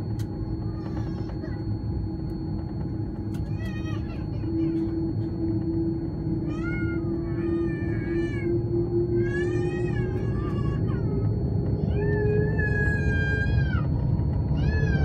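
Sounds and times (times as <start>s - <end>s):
jet engines rumbling: 0.0s - 15.0s
rising engine tone: 0.0s - 15.0s.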